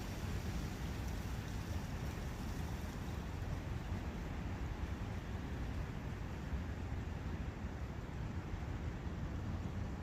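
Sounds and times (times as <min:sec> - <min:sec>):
flowing brook: 0:00.0 - 0:10.0
wind: 0:00.0 - 0:10.0.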